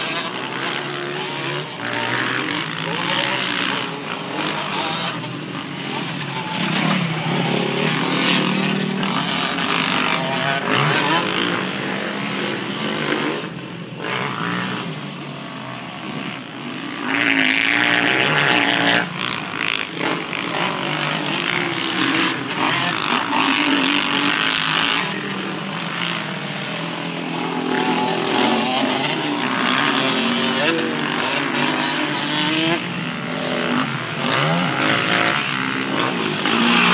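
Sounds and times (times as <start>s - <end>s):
dirt bike engines revving: 0.0s - 36.9s.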